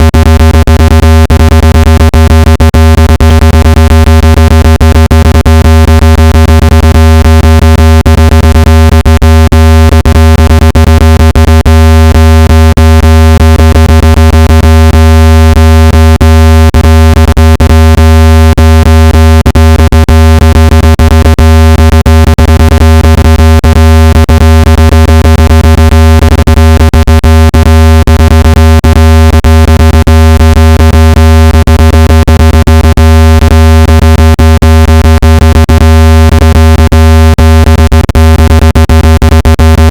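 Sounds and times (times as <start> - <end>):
deep buzzing tone: 0.0 - 39.9.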